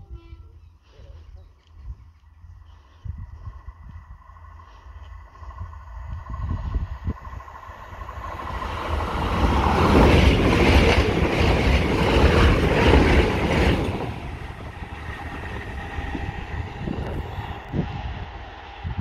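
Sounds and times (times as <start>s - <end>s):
diesel train passing: 2.2s - 19.0s.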